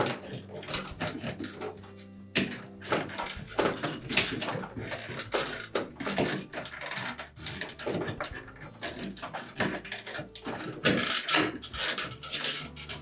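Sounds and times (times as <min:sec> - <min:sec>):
plastic clicks and knocks: 0:00.0 - 0:13.0.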